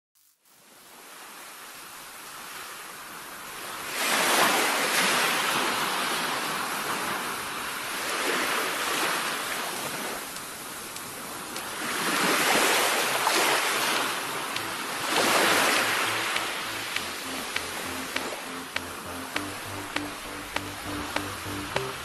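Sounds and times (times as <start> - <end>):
ocean waves washing in: 0.9 - 22.0.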